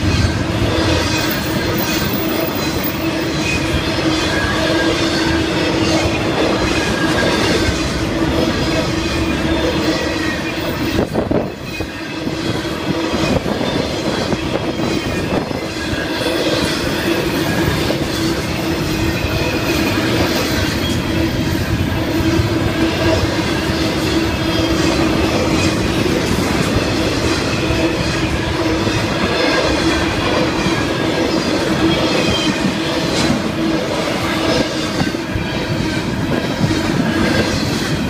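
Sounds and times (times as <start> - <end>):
freight train wheels on rail: 0.0 - 38.0.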